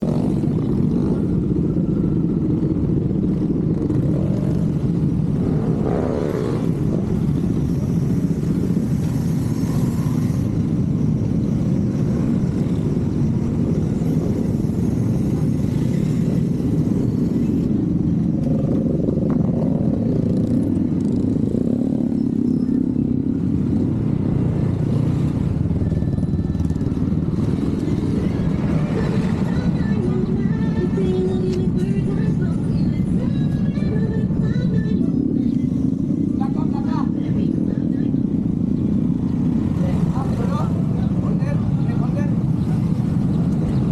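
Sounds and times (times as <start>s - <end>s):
motorcycle engine rumbling: 0.0s - 43.9s.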